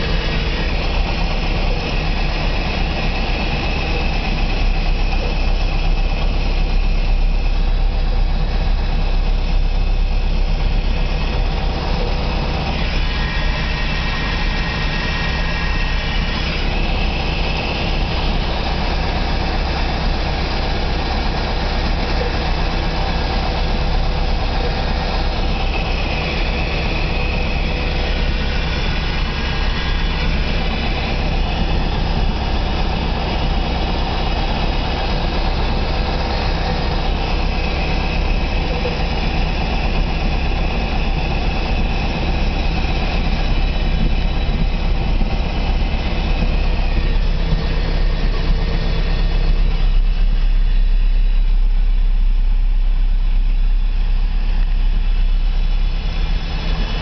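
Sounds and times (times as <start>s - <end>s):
small plane engine running: 0.0s - 57.0s.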